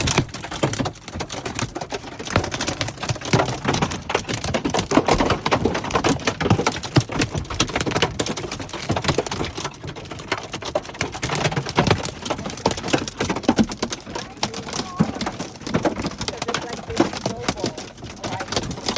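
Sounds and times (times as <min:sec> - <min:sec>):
hailstones clattering: 0:00.0 - 0:18.9.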